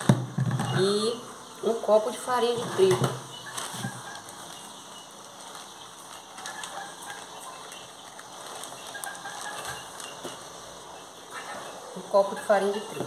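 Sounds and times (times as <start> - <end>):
plastic bag rustling: 2.3 - 13.0.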